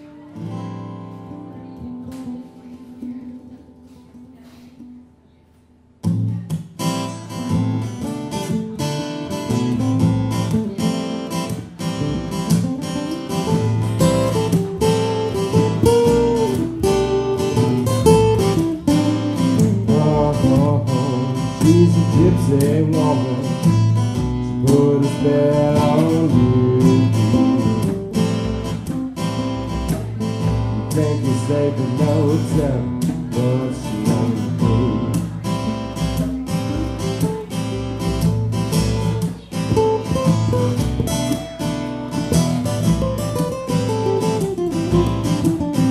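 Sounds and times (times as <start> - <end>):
acoustic guitars strummed: 0.0 - 45.9.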